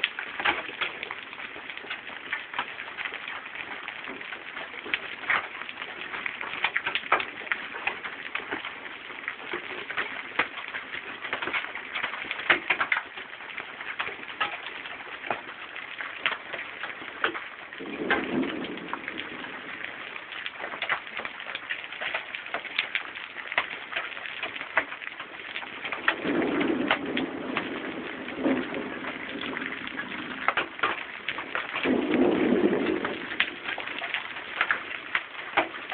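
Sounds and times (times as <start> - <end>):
hailstones clicking: 0.0 - 35.9
rain pattering: 0.0 - 35.9.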